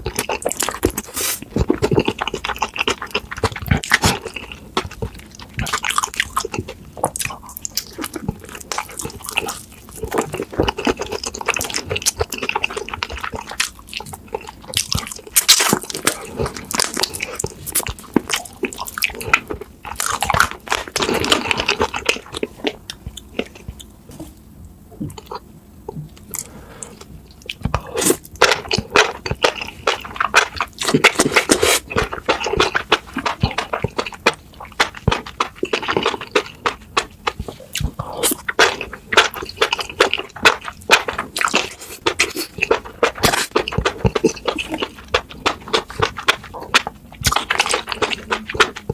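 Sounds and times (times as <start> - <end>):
wet chewing and biting: 0.0 - 24.4, 25.0 - 48.9.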